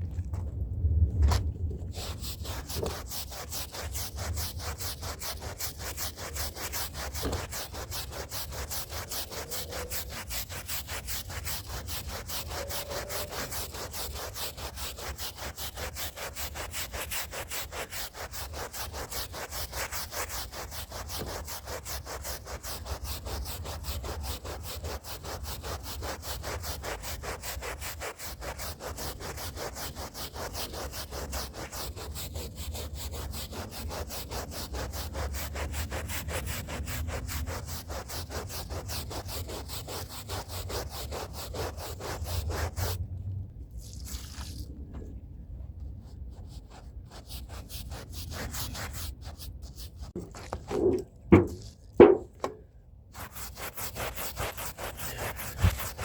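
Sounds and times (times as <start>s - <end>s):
brush scrubbing rug: 1.3s - 43.1s, 45.8s - 52.6s, 53.2s - 56.0s.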